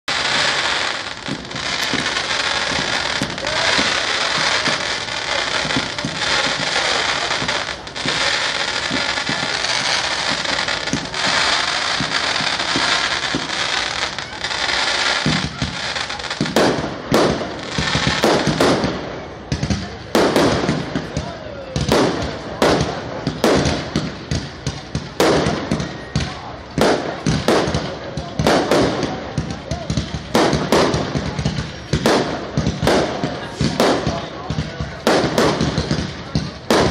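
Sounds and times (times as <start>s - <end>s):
fireworks crackling: 0.0s - 36.9s
loud firework bangs: 0.1s - 36.9s.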